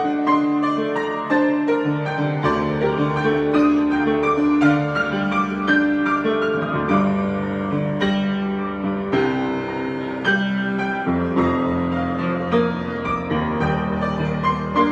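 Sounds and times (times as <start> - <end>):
solo piano: 0.0 - 14.9.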